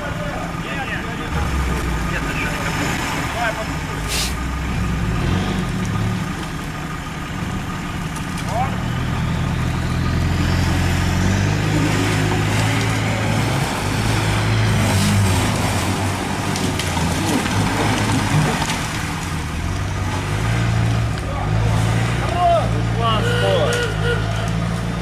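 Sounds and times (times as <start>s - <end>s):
off-road engine running under load: 0.0s - 25.0s.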